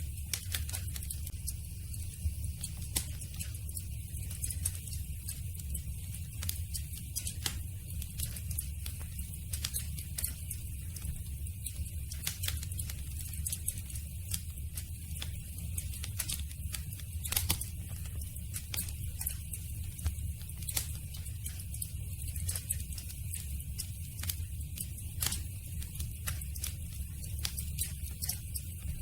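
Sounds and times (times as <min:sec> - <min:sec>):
campfire crackling and popping: 0:00.0 - 0:29.0
low rumble of flames: 0:00.0 - 0:29.0.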